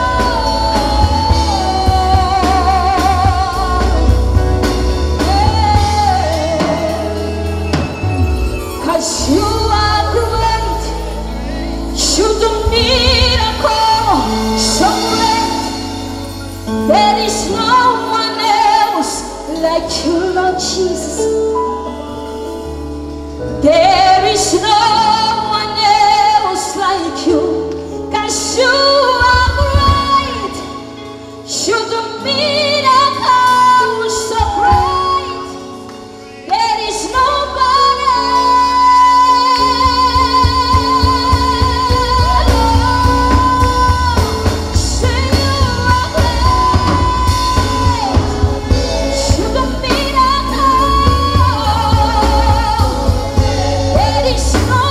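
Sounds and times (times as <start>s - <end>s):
woman singing gospel: 0.0s - 22.2s, 23.5s - 54.9s
band playing: 0.0s - 54.9s.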